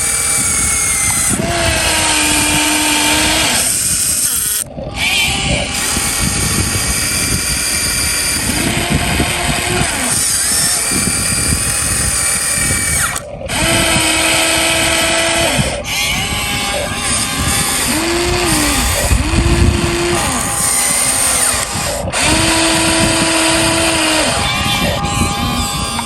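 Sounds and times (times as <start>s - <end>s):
electric motors whining: 0.0s - 26.0s.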